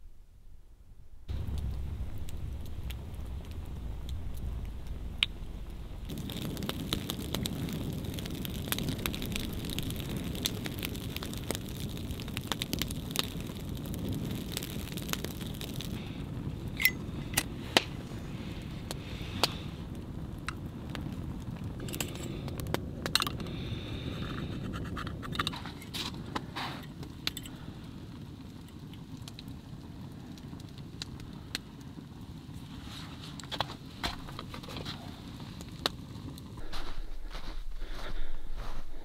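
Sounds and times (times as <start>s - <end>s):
wood fire crackling: 1.0s - 39.0s.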